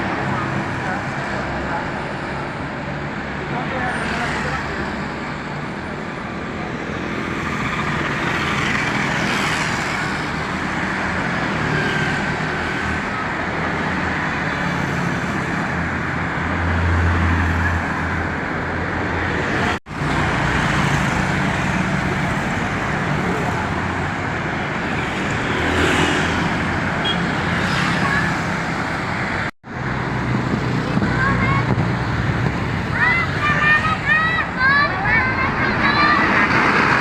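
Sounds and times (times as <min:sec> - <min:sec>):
city road traffic: 0:00.0 - 0:37.0.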